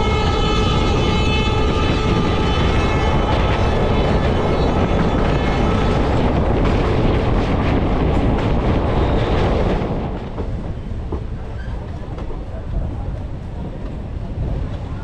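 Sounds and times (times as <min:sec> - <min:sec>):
passenger train rumbling at speed: 0:00.0 - 0:15.0.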